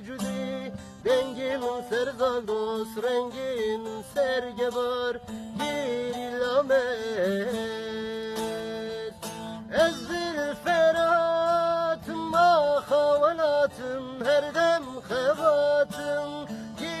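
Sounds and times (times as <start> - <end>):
person singing ornamented melody: 0.0 - 17.0.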